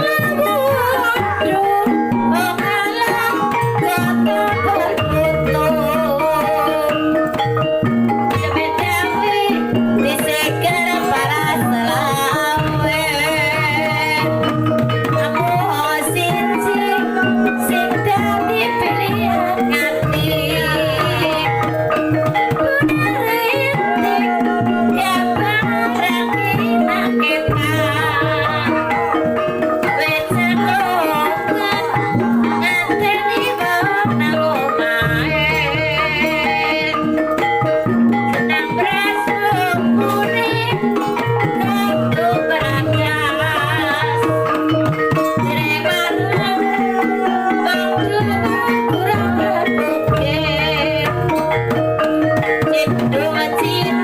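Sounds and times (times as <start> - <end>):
hand drums quick rhythm: 0.0 - 54.0
ornamented melody line: 0.0 - 54.0.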